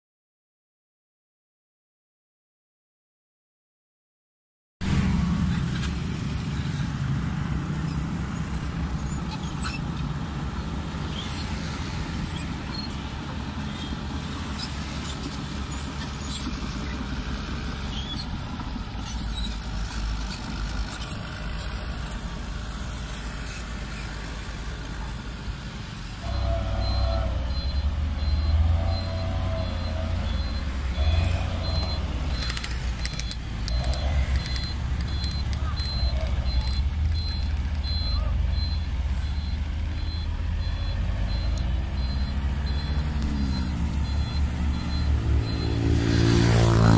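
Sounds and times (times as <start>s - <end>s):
bulldozer diesel engine: 4.8s - 46.9s
dump truck driving past: 4.8s - 46.9s.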